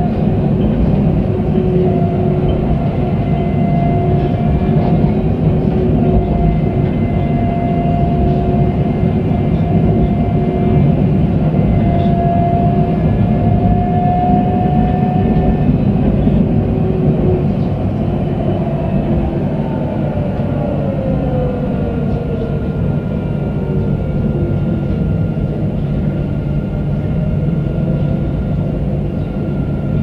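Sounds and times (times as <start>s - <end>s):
tram wheels rumbling on rails: 0.0s - 30.0s
tram whine: 0.0s - 30.0s.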